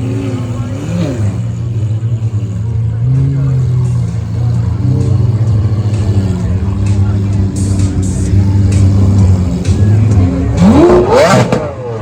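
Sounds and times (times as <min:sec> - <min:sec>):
car engine revving lightly: 0:00.0 - 0:12.0.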